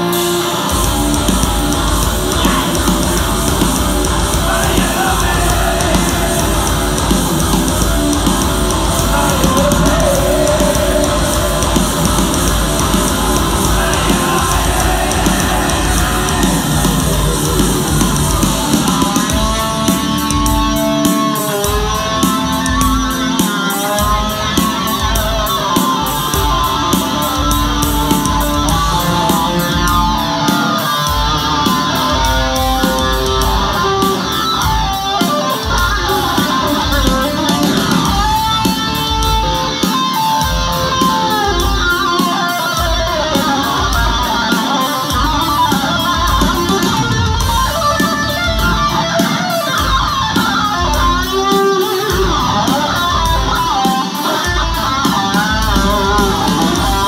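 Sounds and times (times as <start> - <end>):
bass guitar: 0.0 - 57.0
distorted electric guitars: 0.0 - 57.0
steady drum beat: 0.0 - 57.0.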